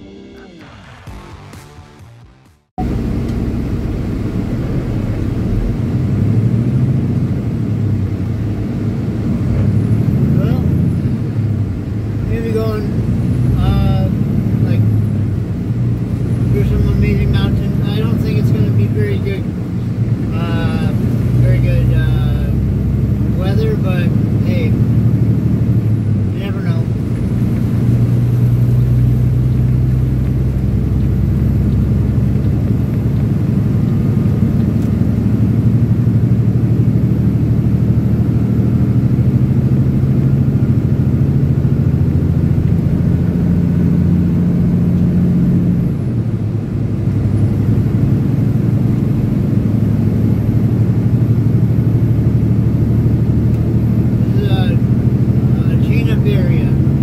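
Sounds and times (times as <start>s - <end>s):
road noise: 0.0s - 57.0s
truck engine droning: 0.0s - 57.0s.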